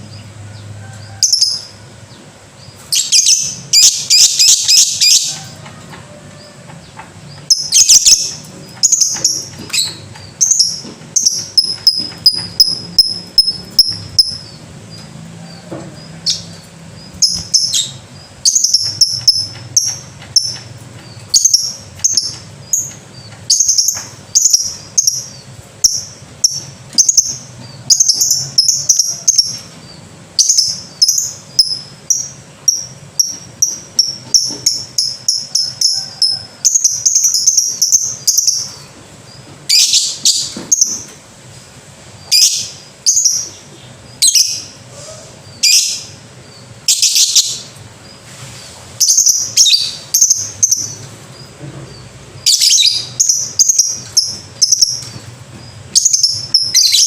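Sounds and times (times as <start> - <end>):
harsh lower bird calls: 0.0 - 41.1, 42.0 - 57.0
lovebird chirping: 2.6 - 5.5, 7.3 - 41.1, 42.2 - 48.2, 49.0 - 57.0.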